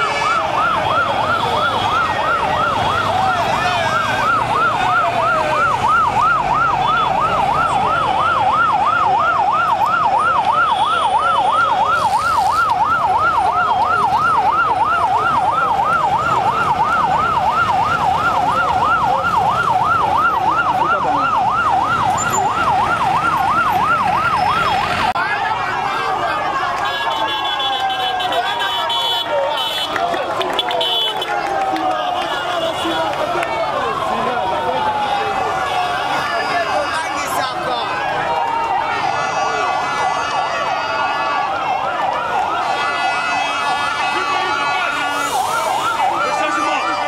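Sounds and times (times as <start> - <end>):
crowd noise: 0.0 - 47.0
police siren yelping: 0.0 - 47.0.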